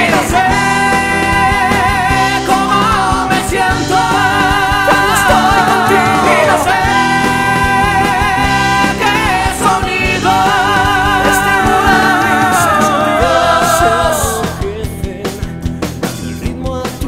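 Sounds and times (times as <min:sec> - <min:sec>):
drum hits: 0:00.0 - 0:15.4
hard rock band playing: 0:00.0 - 0:17.0.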